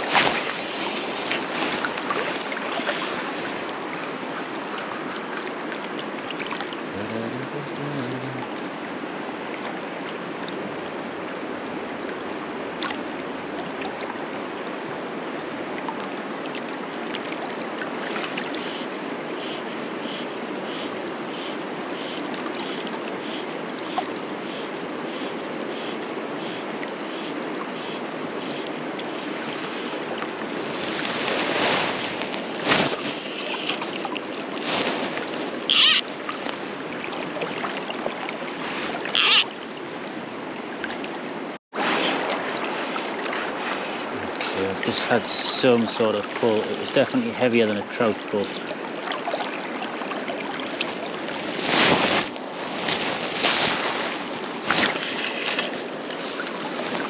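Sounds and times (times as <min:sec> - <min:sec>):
river rushing: 0:00.0 - 0:19.3, 0:28.1 - 0:57.0.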